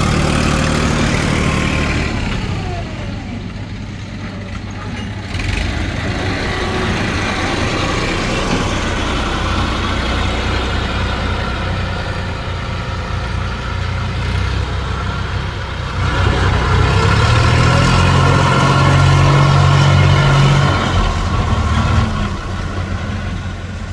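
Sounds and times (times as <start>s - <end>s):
heavy diesel engine running: 0.0s - 23.9s.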